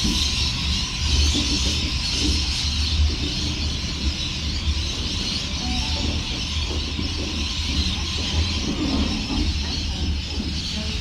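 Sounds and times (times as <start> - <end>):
train passing with low rumble: 0.0 - 11.0.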